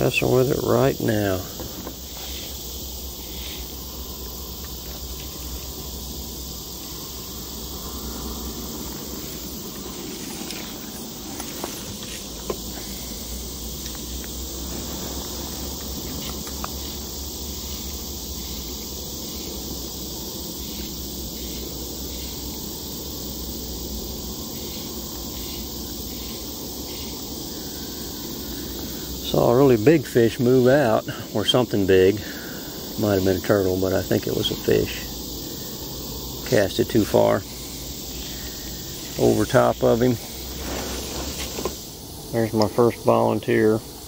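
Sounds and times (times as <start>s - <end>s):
insects chorus: 0.0s - 44.0s.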